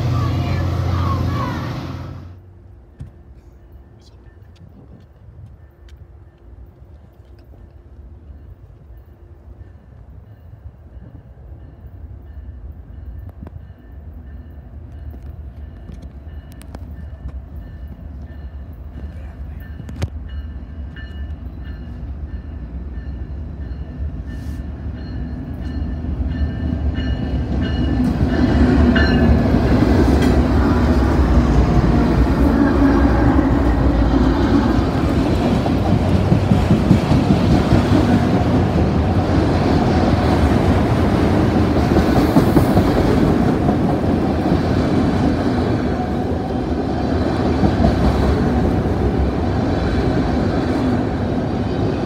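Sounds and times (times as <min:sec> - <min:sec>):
train rolling past: 0:00.0 - 0:52.0.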